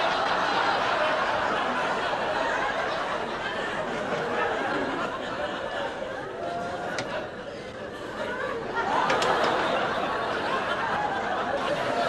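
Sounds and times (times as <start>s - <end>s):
studio audience laughing: 0.0s - 12.0s.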